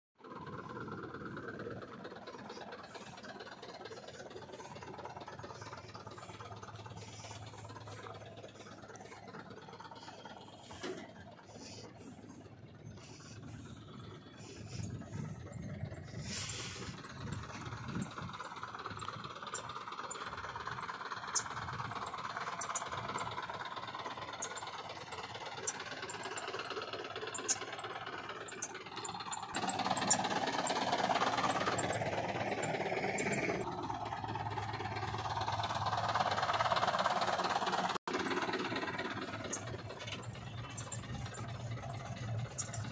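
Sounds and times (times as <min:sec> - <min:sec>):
diesel truck engine running: 0:00.2 - 0:42.9
rattle: 0:00.2 - 0:42.9.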